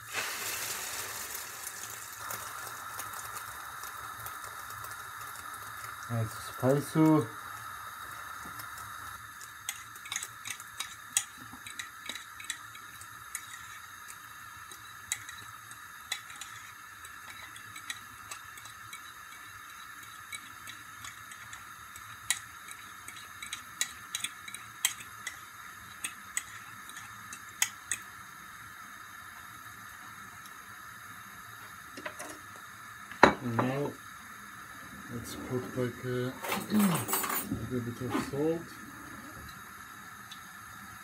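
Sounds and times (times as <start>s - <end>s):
steady background hiss: 0.0s - 41.0s.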